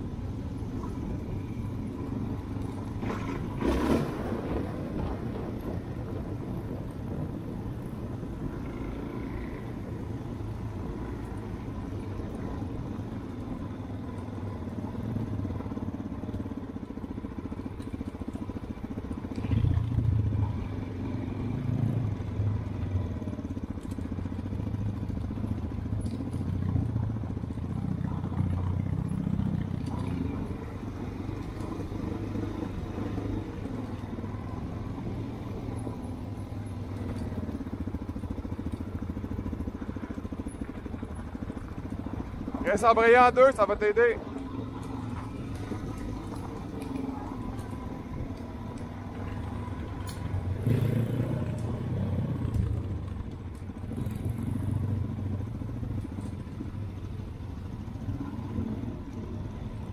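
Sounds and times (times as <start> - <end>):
dirt bike engine at low revs: 0.0 - 59.9.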